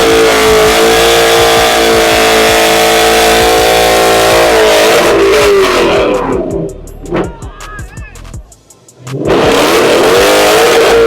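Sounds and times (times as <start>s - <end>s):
car engine revving high: 0.0s - 7.4s, 9.1s - 11.0s.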